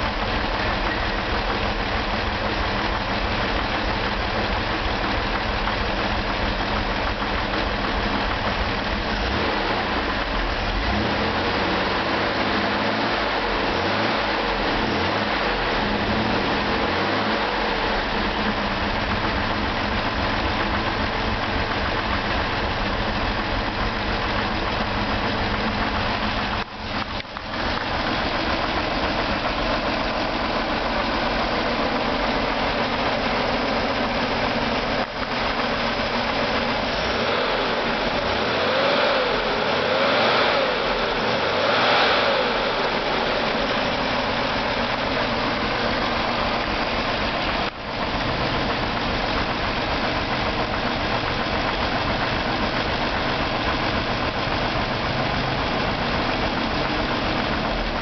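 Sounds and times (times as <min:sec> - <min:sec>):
engine idling and revving: 0:00.0 - 0:58.0.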